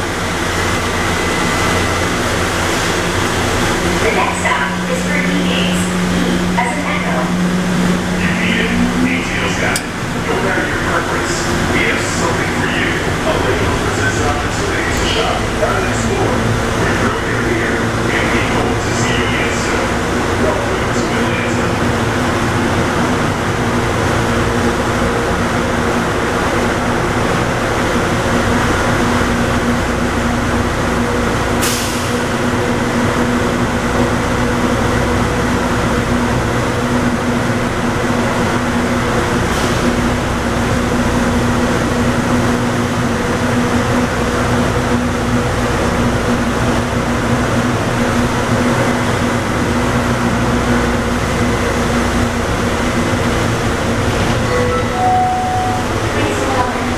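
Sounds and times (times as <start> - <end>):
train rolling rumble: 0.0 - 56.9.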